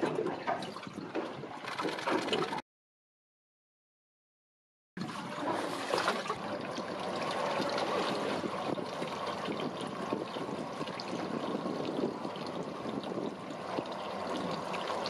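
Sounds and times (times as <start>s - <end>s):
sea water lapping and sloshing: 0.0s - 2.6s, 5.0s - 15.0s.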